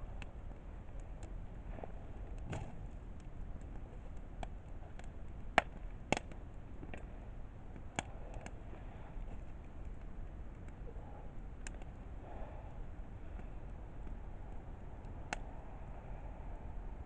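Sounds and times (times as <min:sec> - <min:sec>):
campfire crackling and popping: 0:00.0 - 0:17.0
low steady fire rumble: 0:00.0 - 0:17.0.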